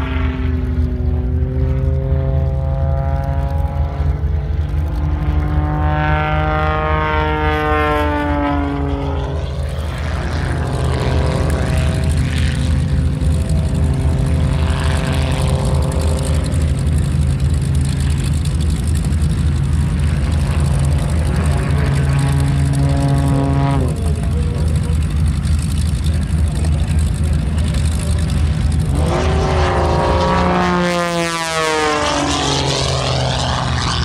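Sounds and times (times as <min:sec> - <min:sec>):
propeller plane engine droning: 0:00.0 - 0:34.0.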